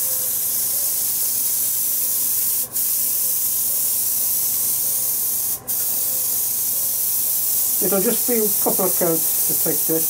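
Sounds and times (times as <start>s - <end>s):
paint spray gun hissing: 0.0s - 10.0s.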